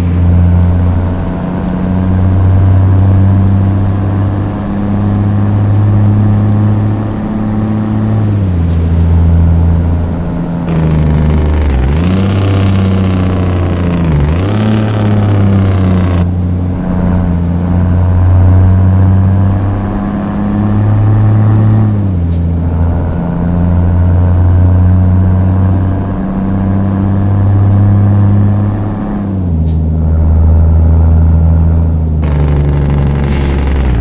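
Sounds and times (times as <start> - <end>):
truck diesel engine running: 0.0 - 34.0.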